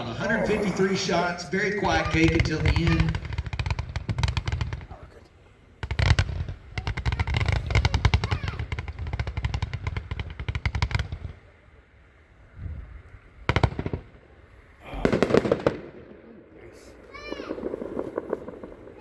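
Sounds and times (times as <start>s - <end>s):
firework reports: 0.0s - 11.8s, 13.4s - 19.0s.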